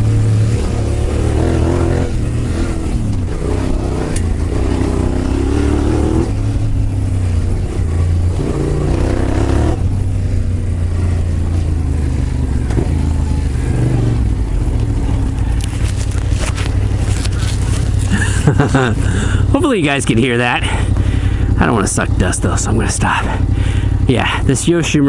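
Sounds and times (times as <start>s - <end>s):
low wind rumble: 0.0s - 25.0s
motorcycle engine revving: 0.0s - 25.0s.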